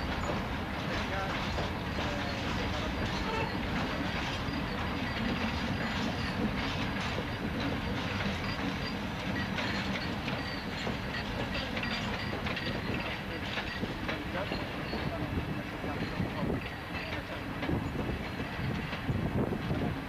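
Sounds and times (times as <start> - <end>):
rumble of train wheels: 0.0 - 20.0
wheels clacking over rail joints: 0.0 - 20.0.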